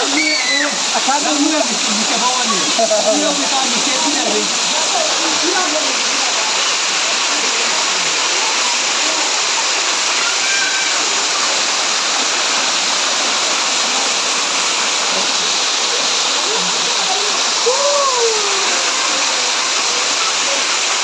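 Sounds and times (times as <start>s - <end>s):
waterfall rushing over rocks: 0.0s - 21.0s.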